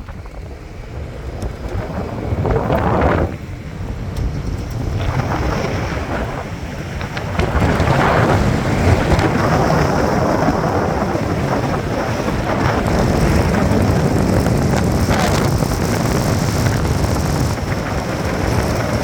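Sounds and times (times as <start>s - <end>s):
car rushing noise: 0.0s - 19.0s
wind buffeting microphone: 0.0s - 19.0s.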